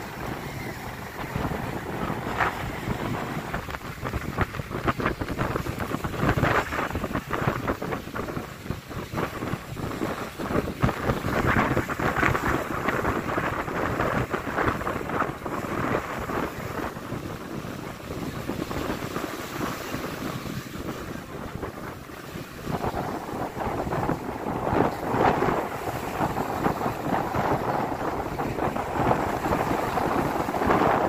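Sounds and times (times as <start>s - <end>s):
surf breaking on beach: 0.0s - 31.0s
wind buffeting microphone: 0.0s - 31.0s.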